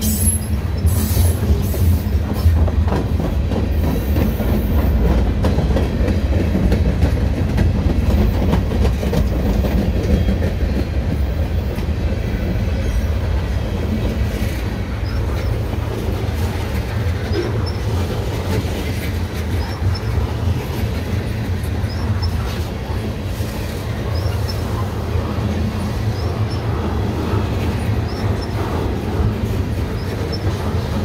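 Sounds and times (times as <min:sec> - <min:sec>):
train wheels clicking: 0:00.0 - 0:31.0
train wheels rumbling on rails: 0:00.0 - 0:31.0.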